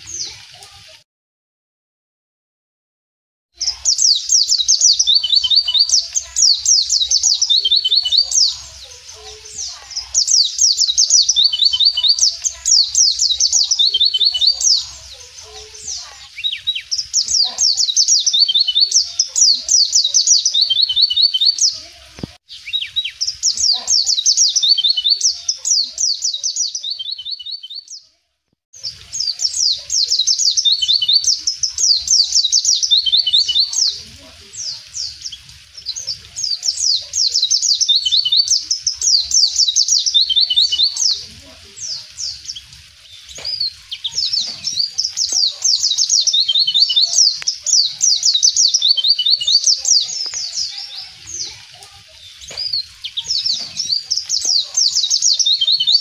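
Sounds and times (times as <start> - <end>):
bird twittering song: 0.0 - 0.4, 3.6 - 28.2, 28.8 - 56.0.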